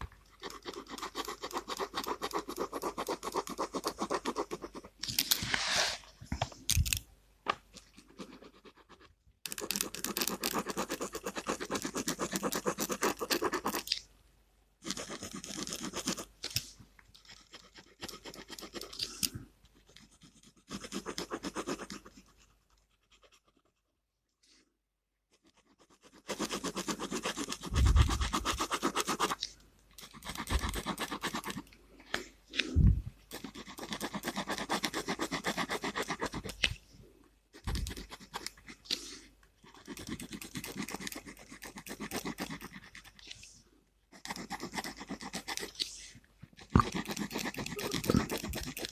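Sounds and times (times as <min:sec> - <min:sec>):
pen scratching on paper: 0:00.3 - 0:06.1, 0:07.9 - 0:14.0, 0:14.8 - 0:23.8, 0:25.3 - 0:31.7, 0:33.3 - 0:36.7, 0:37.5 - 0:43.5, 0:44.1 - 0:46.0, 0:46.6 - 0:48.9.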